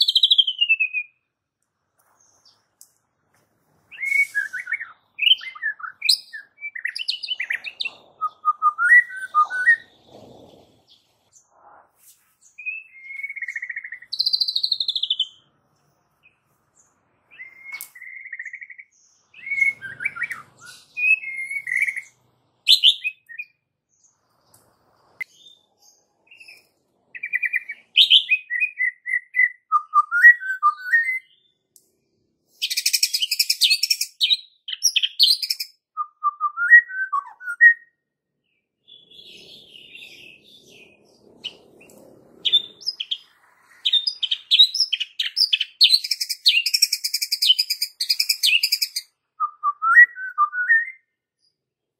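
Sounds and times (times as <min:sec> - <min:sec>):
songbird whistling and warbling: 0:00.0 - 0:01.2, 0:03.9 - 0:11.8, 0:12.4 - 0:15.4, 0:17.3 - 0:23.6, 0:25.2 - 0:31.5, 0:32.6 - 0:38.0, 0:38.8 - 0:51.5.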